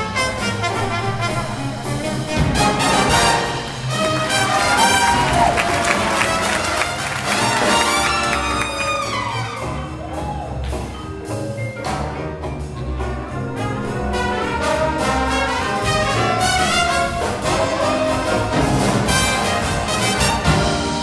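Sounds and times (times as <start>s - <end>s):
jazz big band playing: 0.0s - 21.0s
drums and percussion beat: 0.4s - 21.0s.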